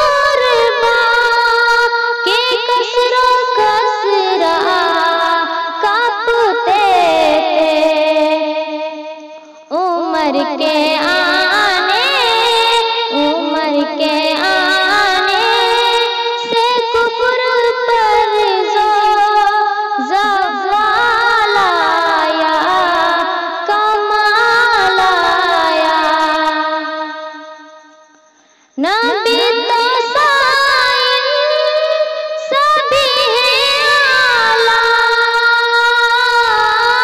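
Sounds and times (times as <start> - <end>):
woman singing devotional song: 0.0 - 37.0.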